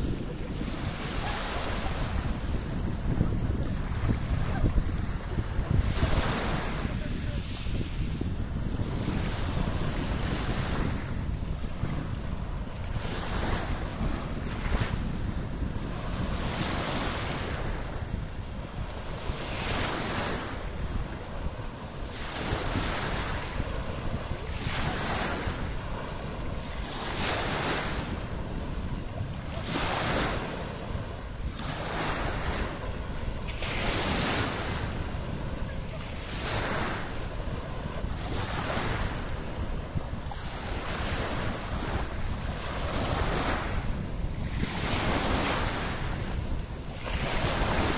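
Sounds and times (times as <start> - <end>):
sea water rushing in surges: 0.0 - 47.9
wind buffeting microphone: 0.0 - 47.9.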